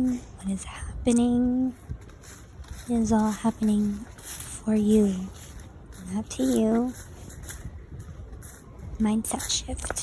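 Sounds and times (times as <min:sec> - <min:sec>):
wind gusting over microphone: 0:00.0 - 0:10.0.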